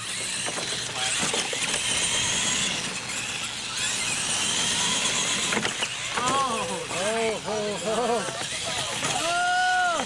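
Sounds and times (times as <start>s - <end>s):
rc truck motor and gear whine: 0.0s - 10.0s
tyres churning loose dirt: 0.0s - 10.0s.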